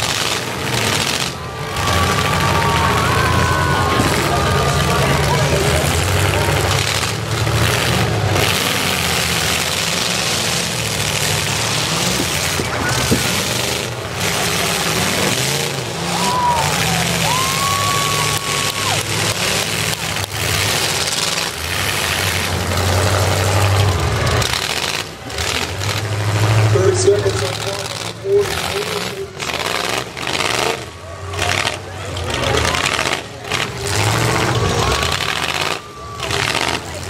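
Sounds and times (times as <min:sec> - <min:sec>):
crowd noise: 0:00.0 - 0:37.0
unmuffled car engines revving: 0:00.0 - 0:37.0.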